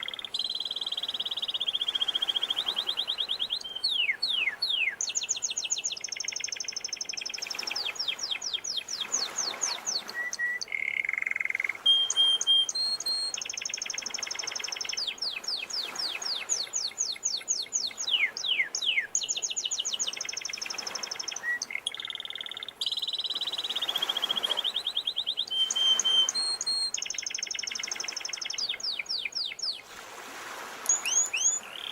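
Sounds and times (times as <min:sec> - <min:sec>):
canary singing trills: 0:00.0 - 0:29.9, 0:30.9 - 0:31.9
faint sea waves: 0:00.0 - 0:31.9.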